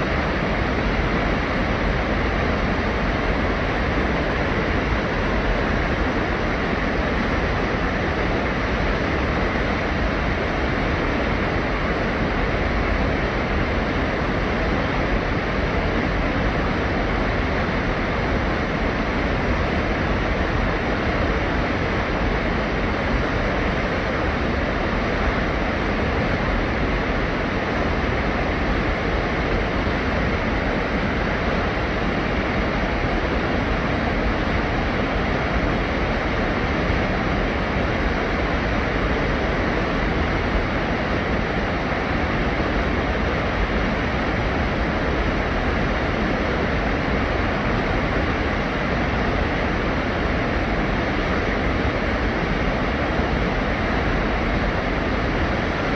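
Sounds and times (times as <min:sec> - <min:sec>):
mountain stream: 0:00.0 - 0:55.9.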